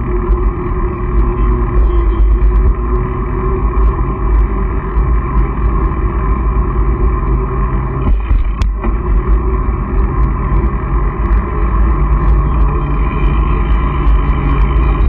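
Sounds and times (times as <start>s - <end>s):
bike tyres rolling on pavement: 0.0s - 15.0s
wind buffeting microphone: 0.0s - 15.0s.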